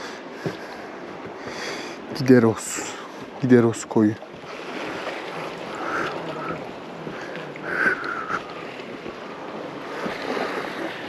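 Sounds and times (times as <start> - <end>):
sea waves washing on shore: 0.0 - 11.0.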